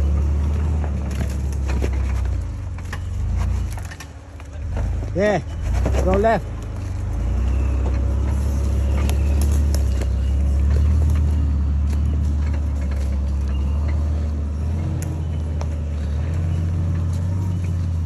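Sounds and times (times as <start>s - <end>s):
off-road vehicle engine idling: 0.0s - 18.0s
tyres crunching on rocks and sticks: 0.0s - 18.0s.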